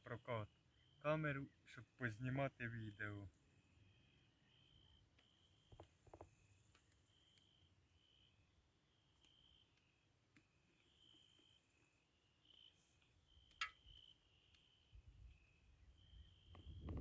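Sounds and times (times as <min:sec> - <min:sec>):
faint high chirps: 0:00.0 - 0:17.0.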